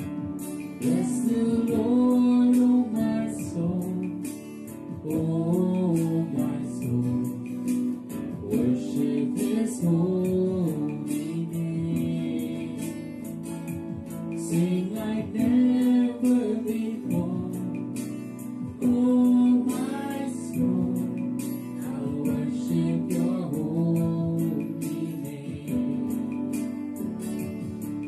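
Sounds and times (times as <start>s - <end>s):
guitar accompaniment: 0.0s - 28.0s
man and woman singing duet: 0.8s - 7.7s, 8.3s - 13.3s, 14.4s - 18.0s, 18.6s - 26.4s.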